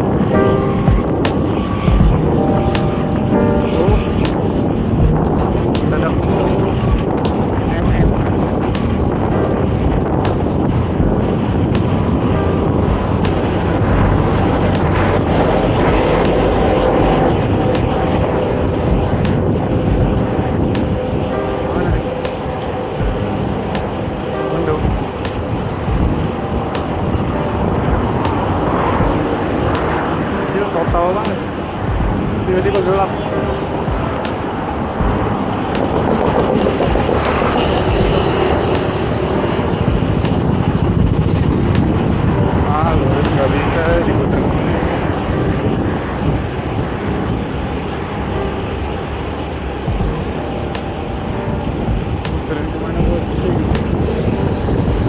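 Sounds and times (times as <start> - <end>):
city traffic engines: 0.0 - 55.0
wind on microphone: 0.0 - 55.0.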